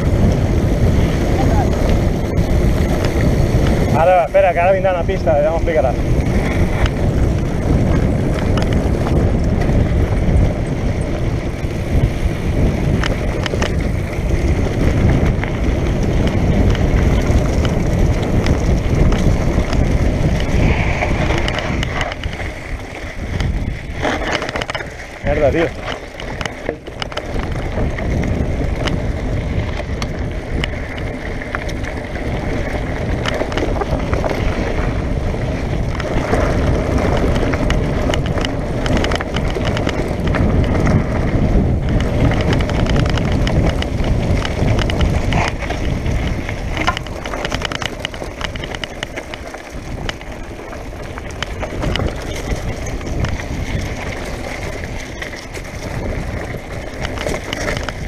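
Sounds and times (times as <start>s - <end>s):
bike rattling clicks: 0.0s - 58.0s
bike tyres crunching over gravel: 0.0s - 58.0s
wind rumble on microphone: 0.0s - 58.0s.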